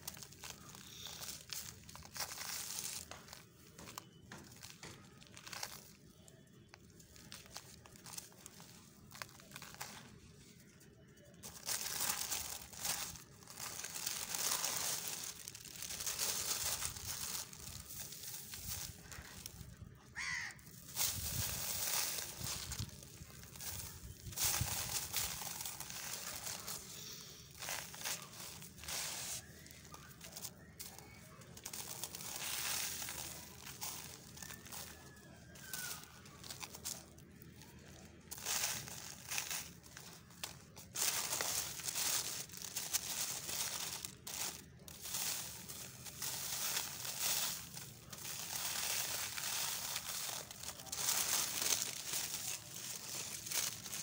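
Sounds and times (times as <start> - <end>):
gritty crumbling and trickling: 0.0 - 54.0
paper crinkling: 0.0 - 54.0.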